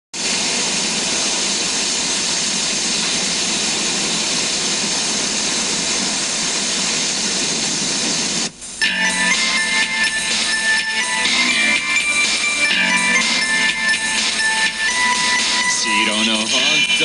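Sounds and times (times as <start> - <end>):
white noise hiss: 0.2 - 17.0.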